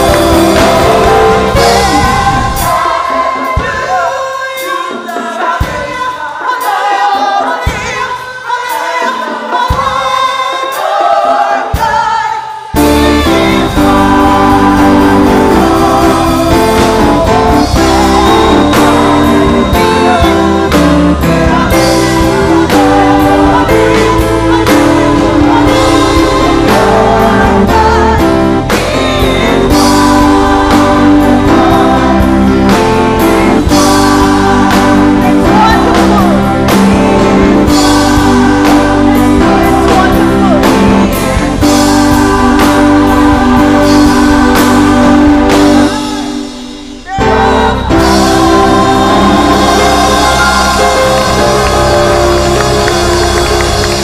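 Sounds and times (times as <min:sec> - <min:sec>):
gospel singing over band: 0:00.0 - 0:54.0.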